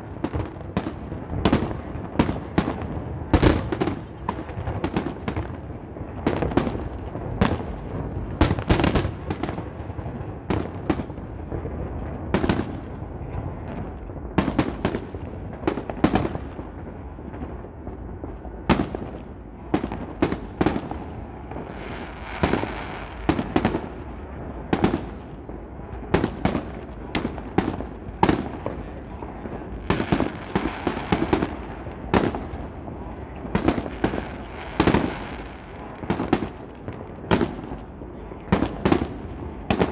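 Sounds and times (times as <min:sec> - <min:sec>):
continuous low rumble: 0:00.0 - 0:39.9.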